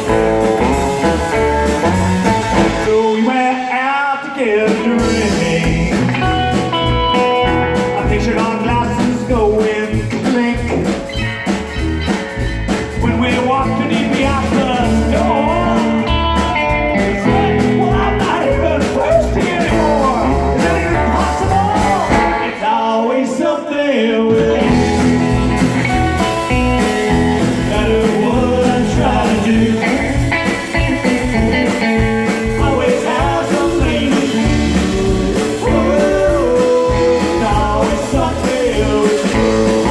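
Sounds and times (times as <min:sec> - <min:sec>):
live blues-rock band: 0:00.0 - 0:23.0, 0:24.2 - 0:39.9.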